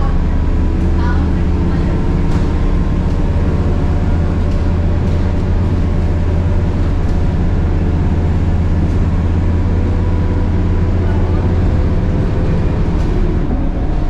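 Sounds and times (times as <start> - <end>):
bus diesel engine droning: 0.0 - 14.0
road noise: 0.0 - 14.0.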